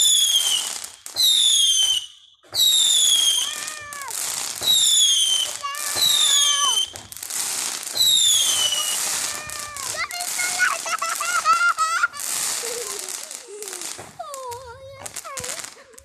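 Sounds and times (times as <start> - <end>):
firework whistles falling in pitch: 0.0 - 14.2
fireworks crackling: 0.0 - 16.0.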